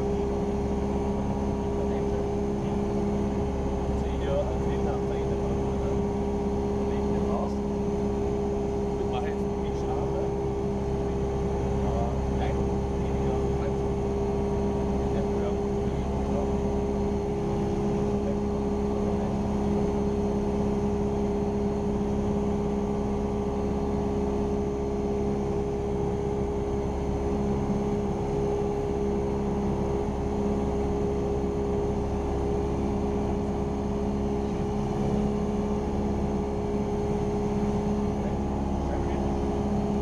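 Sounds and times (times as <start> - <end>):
airplane engine droning in cockpit: 0.0 - 40.0.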